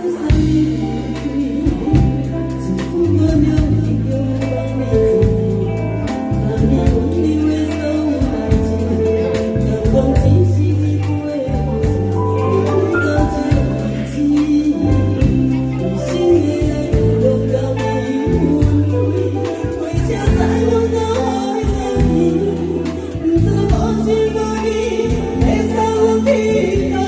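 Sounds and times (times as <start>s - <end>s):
musical accompaniment with bass and beat: 0.0s - 27.0s
person singing live: 0.0s - 27.0s.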